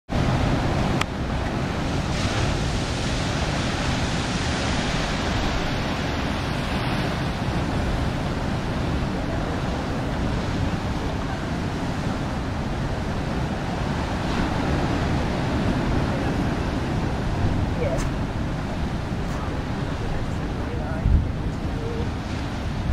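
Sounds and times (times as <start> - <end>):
surf breaking against rocks: 0.1 - 22.9
wind buffeting microphone: 0.1 - 22.9.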